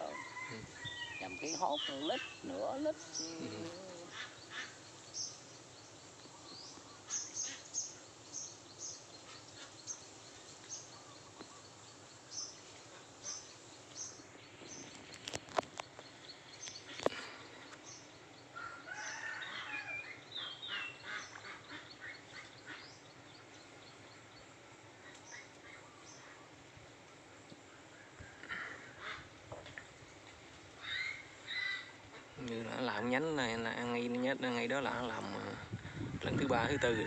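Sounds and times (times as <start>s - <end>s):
birds chirping and warbling: 0.0s - 26.6s, 30.8s - 37.0s.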